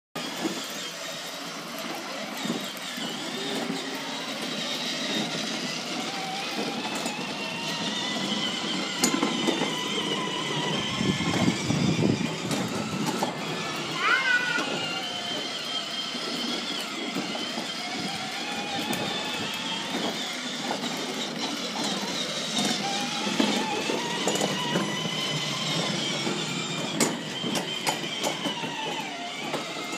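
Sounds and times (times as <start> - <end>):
electric motor whine: 0.2 - 29.9
plastic wheels rattling on paving: 0.2 - 29.9.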